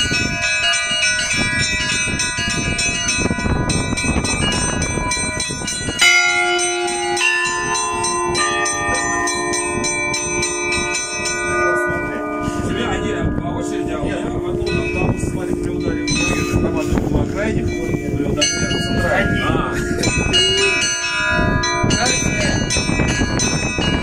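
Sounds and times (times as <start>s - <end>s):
low heavy bell ringing: 0.0s - 24.0s
small church bells ringing: 0.0s - 24.0s.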